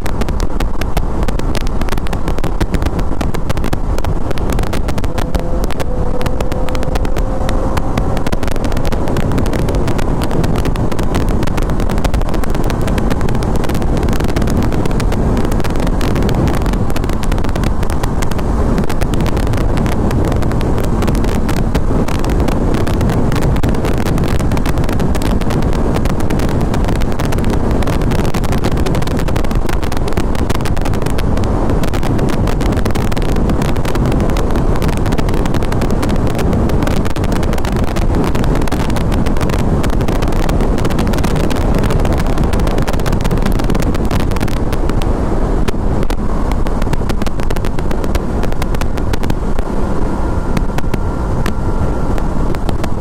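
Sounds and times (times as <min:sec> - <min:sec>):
motorcycle engine: 0:00.0 - 0:53.0
wind rushing on microphone: 0:00.0 - 0:53.0.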